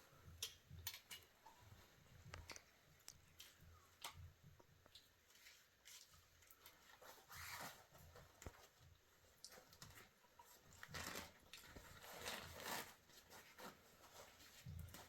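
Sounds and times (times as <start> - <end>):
faint rustling and crunching: 0.0 - 15.0.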